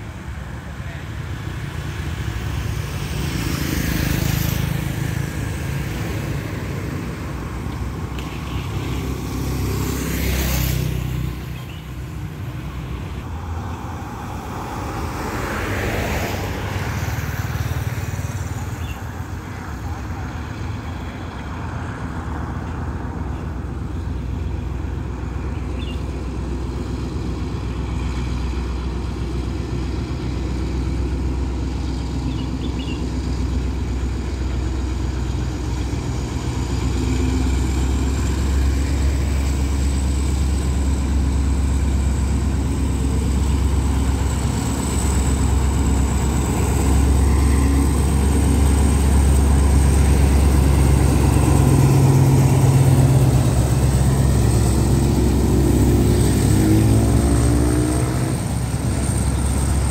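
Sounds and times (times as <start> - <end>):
low engine rumble: 0.0 - 59.9
motorcycles and cars passing: 0.0 - 59.9.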